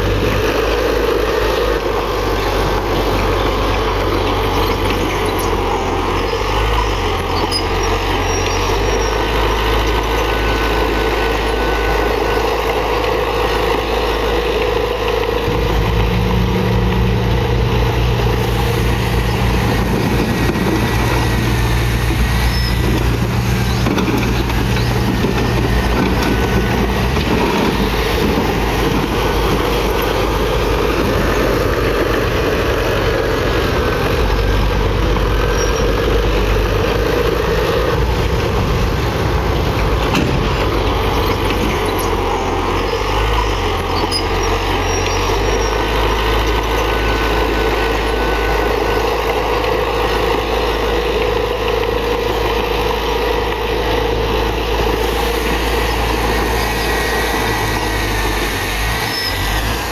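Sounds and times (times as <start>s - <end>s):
heavy diesel machinery running: 0.0s - 59.9s.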